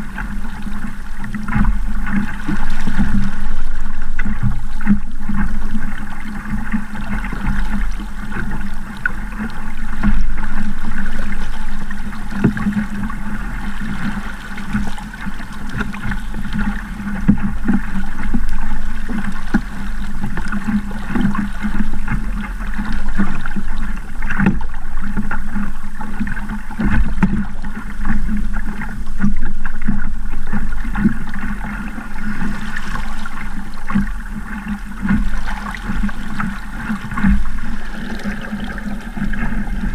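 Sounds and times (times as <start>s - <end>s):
water rushing along hull: 0.0s - 39.9s
waves slapping hull: 0.0s - 39.9s.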